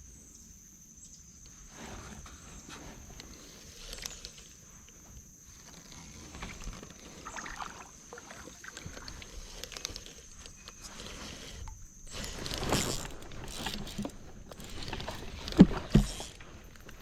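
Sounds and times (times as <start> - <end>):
water lapping on kayak hull: 3.3 - 17.0.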